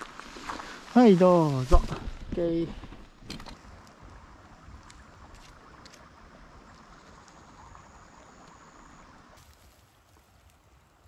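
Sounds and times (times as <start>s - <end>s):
stream trickling over stones: 0.0s - 11.0s.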